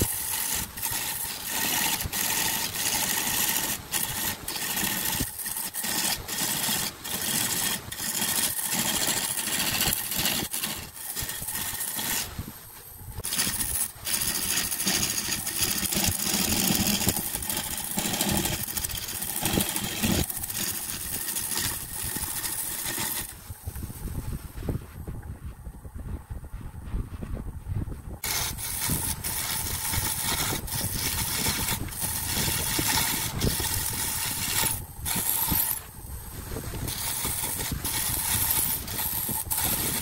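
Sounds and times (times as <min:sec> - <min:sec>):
wood lathe cutting and scraping: 0:00.0 - 0:12.5, 0:13.2 - 0:23.8, 0:28.2 - 0:40.0.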